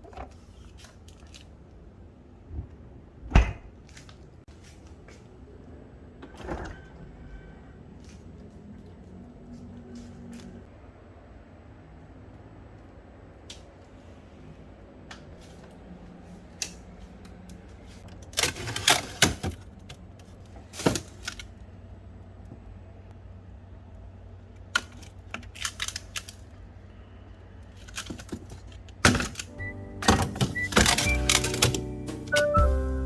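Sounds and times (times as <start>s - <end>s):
refrigerator hum: 0.0s - 33.0s.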